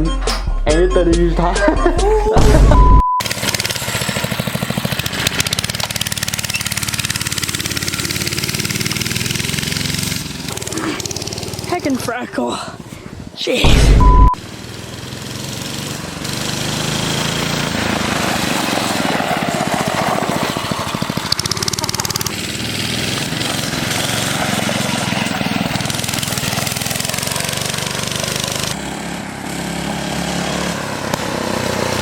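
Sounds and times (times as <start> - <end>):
small engine running: 2.7 - 12.3, 14.4 - 32.0.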